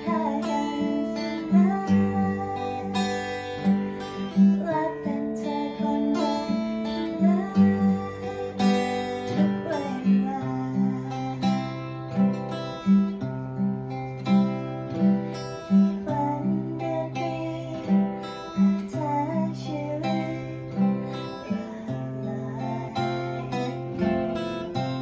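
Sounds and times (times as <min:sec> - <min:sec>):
acoustic guitar melody: 0:00.0 - 0:25.0.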